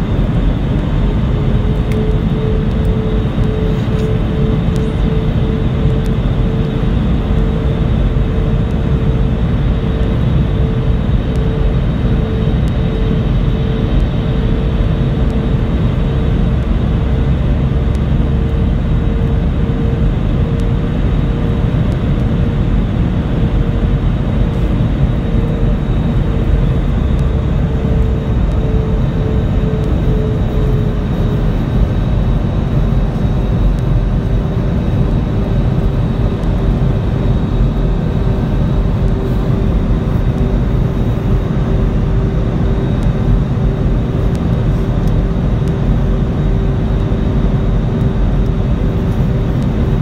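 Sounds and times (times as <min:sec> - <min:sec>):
jet airliner cabin rumble: 0:00.0 - 0:50.0.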